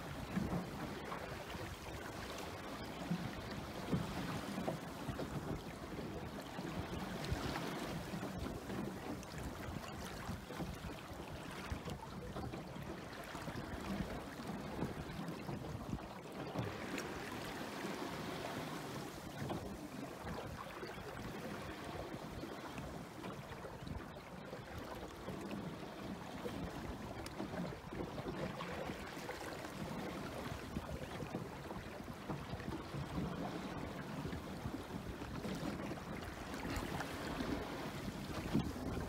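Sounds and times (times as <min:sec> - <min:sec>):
water splashing along boat hull: 0:00.0 - 0:39.0.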